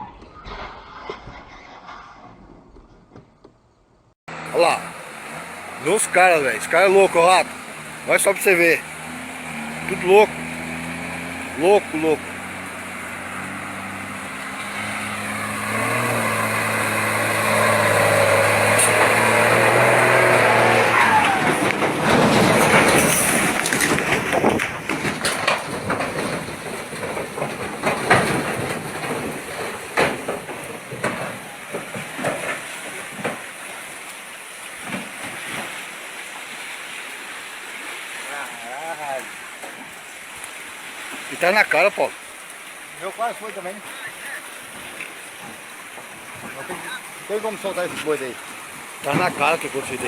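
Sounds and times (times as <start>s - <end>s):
rushing rumble with knocks and rattles: 0.0s - 36.5s, 44.6s - 50.0s.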